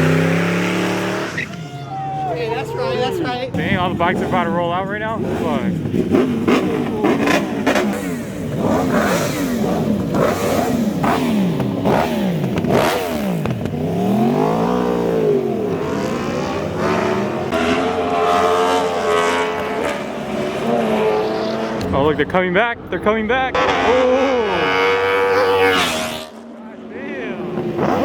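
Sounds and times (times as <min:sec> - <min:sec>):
engine revving: 0:00.0 - 0:28.0.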